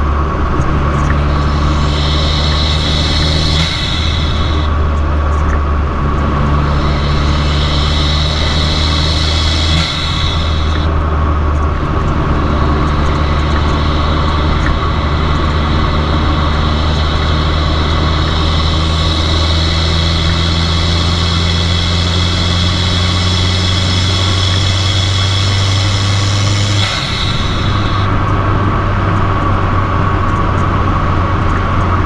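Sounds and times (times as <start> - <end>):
car engine low drone: 0.0 - 32.0.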